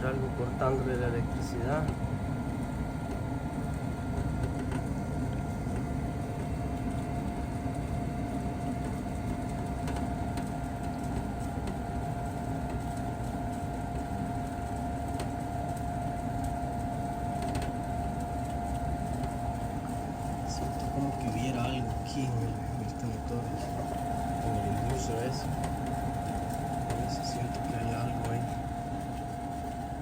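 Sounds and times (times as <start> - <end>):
furnace motor humming with whine: 0.0 - 30.0.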